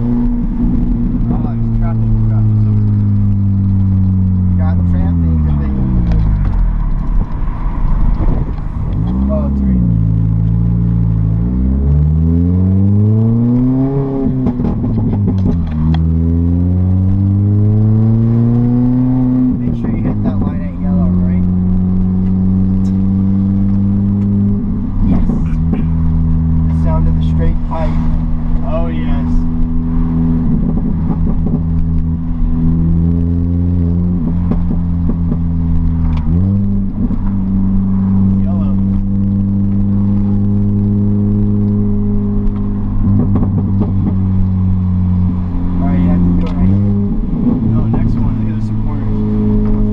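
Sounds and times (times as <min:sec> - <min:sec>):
exhaust pops: 0:00.0 - 0:11.5, 0:12.2 - 0:16.4, 0:17.0 - 0:49.9
car engine accelerating: 0:00.0 - 0:49.9.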